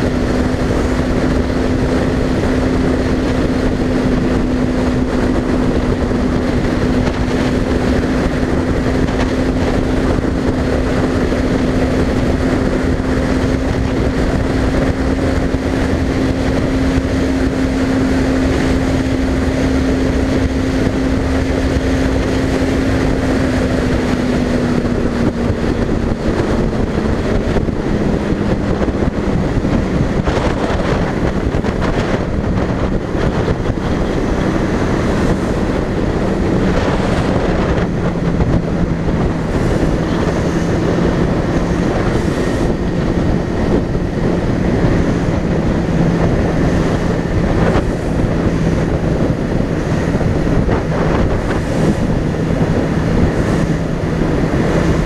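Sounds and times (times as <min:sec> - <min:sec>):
motorcycle engine drone: 0:00.0 - 0:55.0
wind rushing over microphone: 0:00.0 - 0:55.0.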